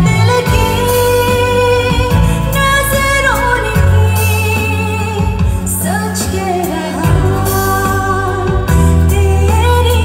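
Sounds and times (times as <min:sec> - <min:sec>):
amplified backing track with bass: 0:00.0 - 0:10.0
woman singing pop song: 0:00.0 - 0:10.0.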